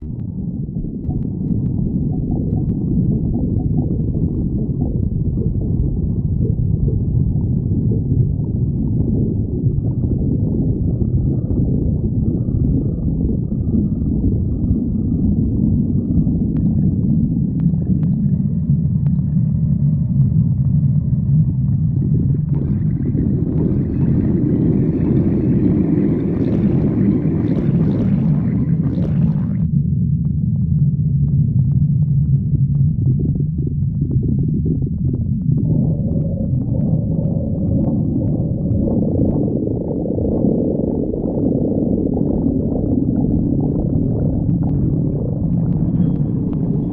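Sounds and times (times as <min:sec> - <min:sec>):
stomach growling: 0:00.0 - 0:46.9.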